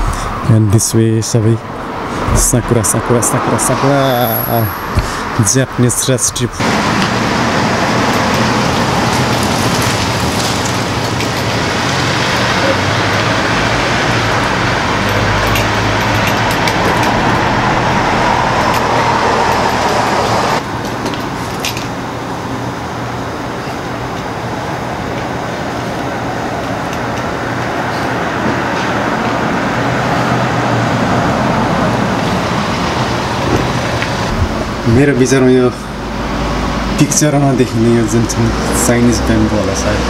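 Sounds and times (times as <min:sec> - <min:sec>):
road traffic noise: 0:00.0 - 0:40.0
low engine hum: 0:01.6 - 0:20.8, 0:25.9 - 0:40.0.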